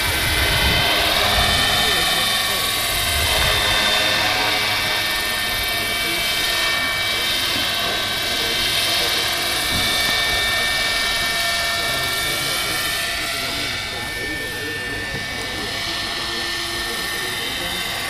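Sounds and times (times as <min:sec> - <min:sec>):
model helicopter whine: 0:00.0 - 0:18.0.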